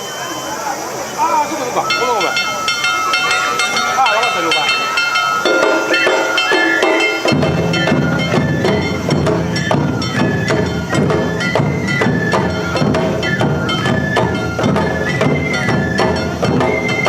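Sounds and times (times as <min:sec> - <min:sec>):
flute melody: 0:00.0 - 0:17.0
small drums beating: 0:01.3 - 0:17.0
hand bell ringing: 0:01.8 - 0:16.8
big drums booming: 0:02.6 - 0:17.0.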